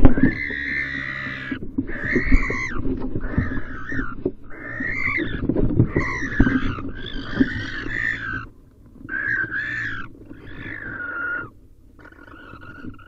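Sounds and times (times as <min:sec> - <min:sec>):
barn owls screeching: 0:00.0 - 0:13.0.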